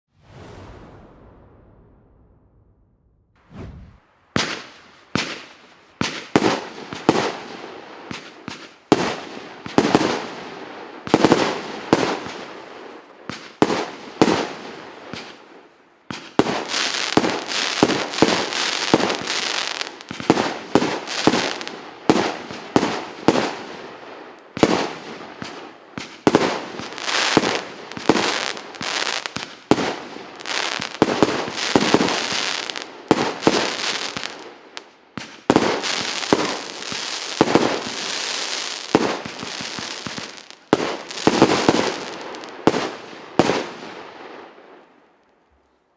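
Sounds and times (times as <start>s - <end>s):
fireworks bangs: 0.1s - 12.6s, 16.1s - 24.0s, 24.6s - 44.1s
fireworks crackling: 3.4s - 15.5s, 16.1s - 43.9s.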